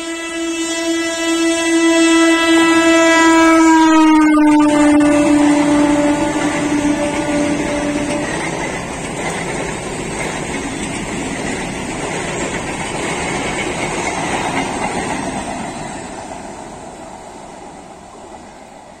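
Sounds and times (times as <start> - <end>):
train coaches rumbling on rails: 0.0 - 19.0.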